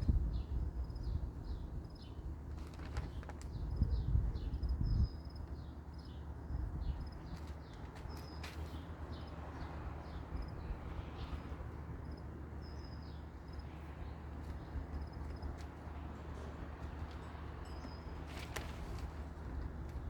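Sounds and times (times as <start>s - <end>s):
small birds chirping: 2.9s - 19.4s.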